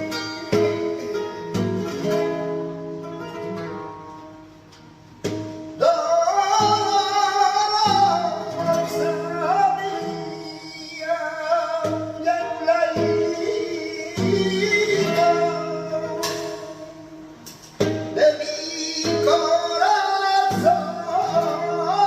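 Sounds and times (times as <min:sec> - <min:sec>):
guitar chords strummed: 0:00.0 - 0:22.0.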